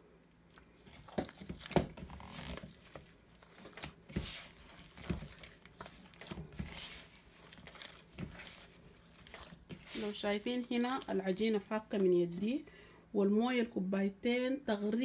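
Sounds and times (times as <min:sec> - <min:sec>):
dough squelching and slapping: 0:00.4 - 0:12.5.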